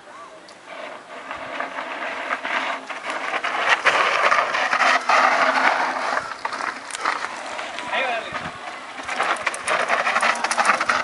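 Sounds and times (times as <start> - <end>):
bike tyres skidding on gravel: 0.6 - 11.0.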